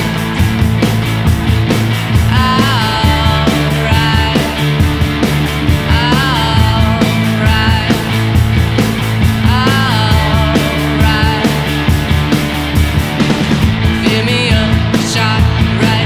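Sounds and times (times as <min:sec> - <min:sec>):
surf rock band playing: 0:00.0 - 0:16.0.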